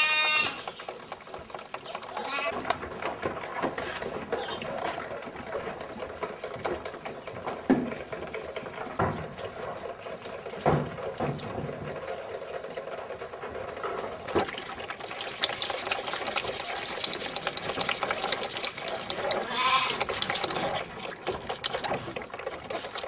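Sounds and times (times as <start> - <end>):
barn clatter and knocks: 0.0 - 23.0.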